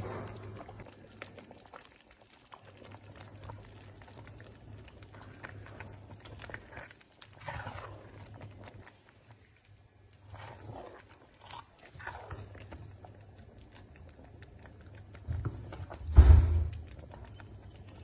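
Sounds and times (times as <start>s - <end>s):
soup simmering with bubbling pops: 0.0s - 18.0s
wooden spoon in pot: 0.0s - 18.0s.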